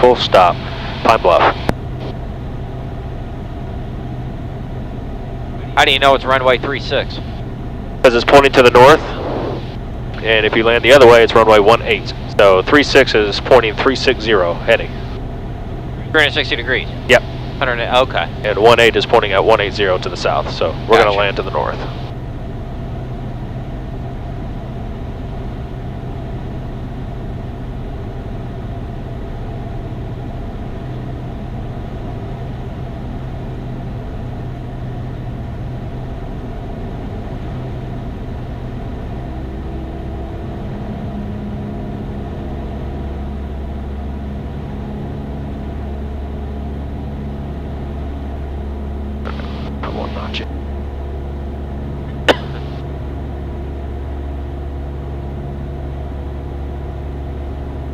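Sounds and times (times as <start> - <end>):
airplane engine droning in cabin: 0.0 - 57.9.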